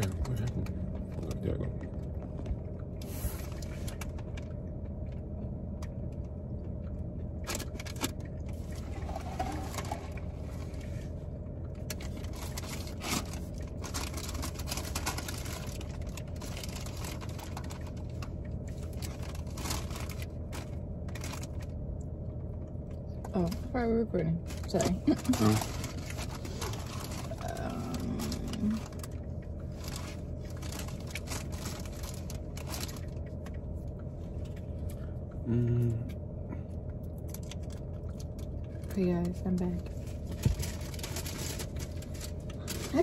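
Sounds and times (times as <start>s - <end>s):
car engine hum: 0.0s - 43.0s.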